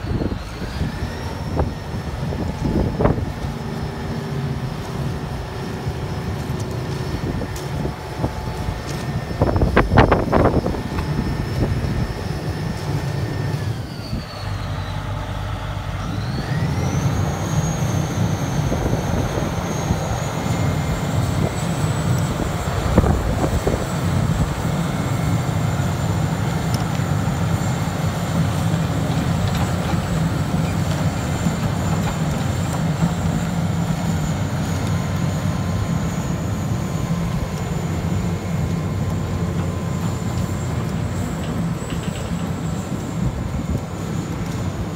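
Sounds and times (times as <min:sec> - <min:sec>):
diesel engine running: 0:00.0 - 0:44.9
high whine: 0:00.0 - 0:44.9.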